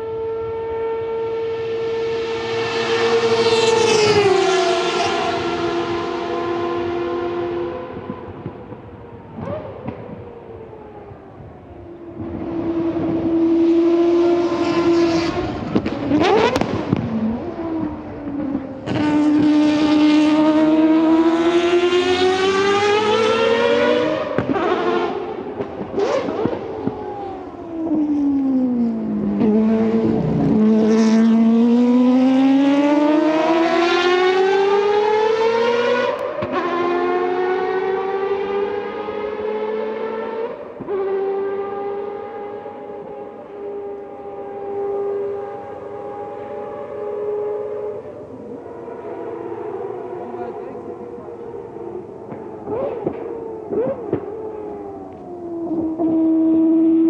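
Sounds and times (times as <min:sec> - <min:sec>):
rotary engine accelerating: 0:00.0 - 0:11.0, 0:11.6 - 0:57.0.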